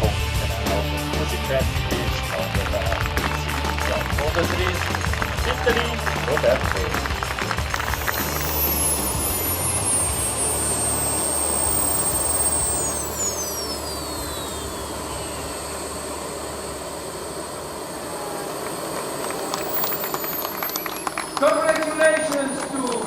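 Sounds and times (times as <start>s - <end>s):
jet turbine engine whistle: 0.0s - 23.0s
steady rushing noise: 0.0s - 23.0s.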